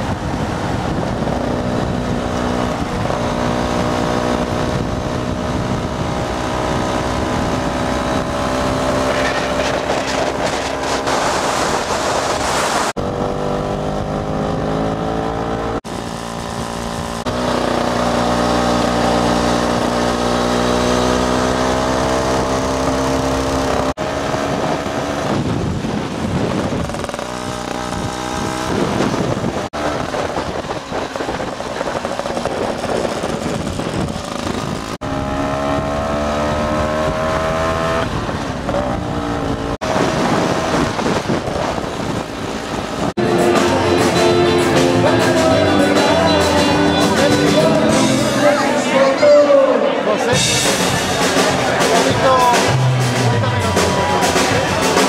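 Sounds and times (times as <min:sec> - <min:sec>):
scooter and motorcycle engines: 0:00.0 - 0:55.0.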